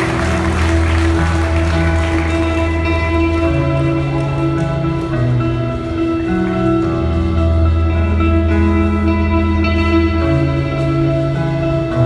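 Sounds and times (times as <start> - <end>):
guitars ringing sustained chords: 0.0 - 12.0.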